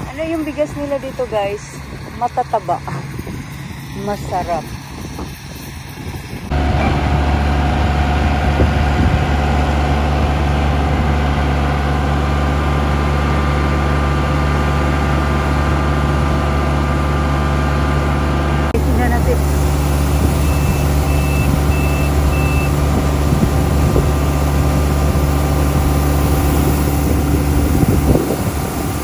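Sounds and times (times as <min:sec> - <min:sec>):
combine harvester engine drone: 0:00.0 - 0:29.0.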